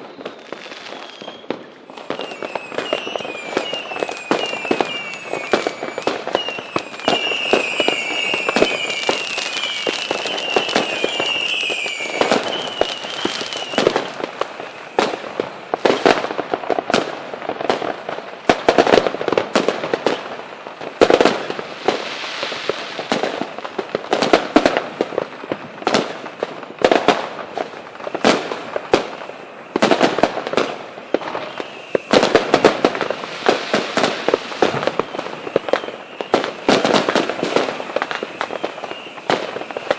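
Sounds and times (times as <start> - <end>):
fireworks bangs and crackling: 0.0 - 39.9
whistling fireworks: 0.0 - 39.9.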